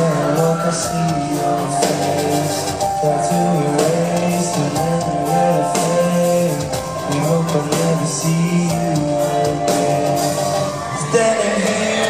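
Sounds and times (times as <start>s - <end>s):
live pop band through speakers: 0.0s - 12.0s
man singing: 0.0s - 12.0s.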